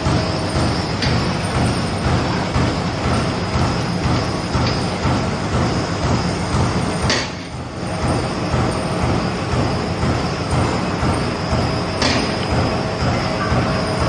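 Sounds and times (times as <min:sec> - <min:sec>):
punching machine clattering: 0:00.0 - 0:14.0.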